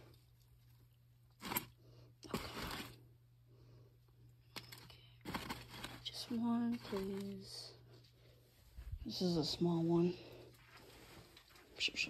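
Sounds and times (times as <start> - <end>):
faint rustling and scraping: 0.0 - 3.1, 4.5 - 12.0.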